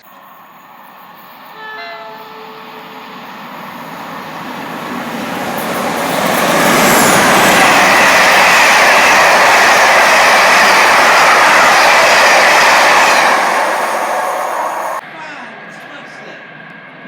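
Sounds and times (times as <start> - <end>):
train wheel squeal: 0.0 - 15.0
train rushing through station: 0.0 - 17.0.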